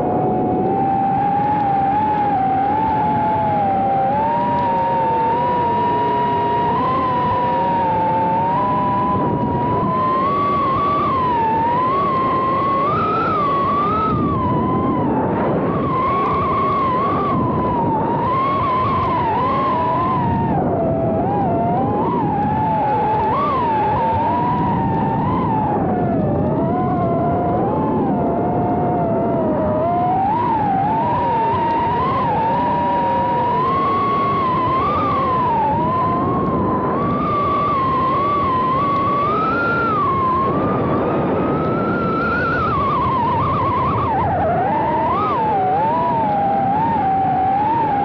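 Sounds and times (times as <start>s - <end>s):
quadcopter propellers whining: 0.0s - 48.0s
steady rushing noise: 0.0s - 48.0s.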